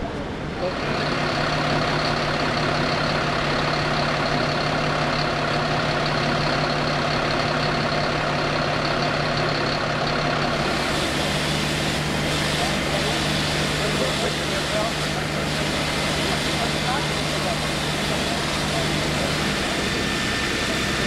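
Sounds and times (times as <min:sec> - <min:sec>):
fire engine motor running: 0:00.0 - 0:21.0.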